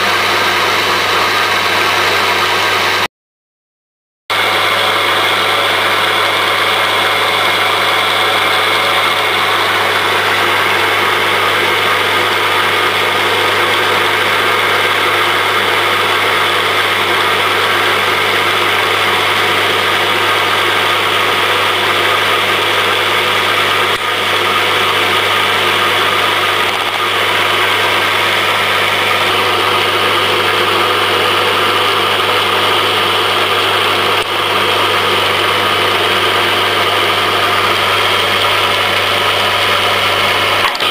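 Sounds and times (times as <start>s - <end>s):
spinning shaft mechanical whir: 0.0s - 3.1s, 4.3s - 40.9s.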